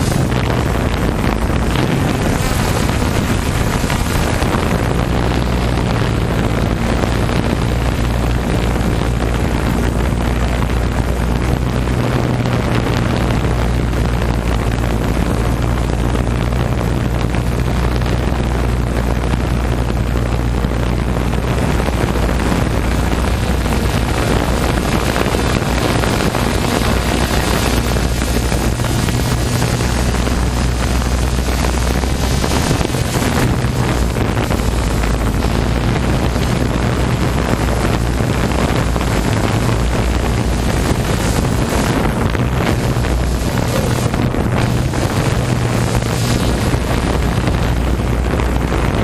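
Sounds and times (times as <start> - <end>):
watercraft engine drone: 0.0 - 49.0
wind buffeting microphone: 0.0 - 49.0.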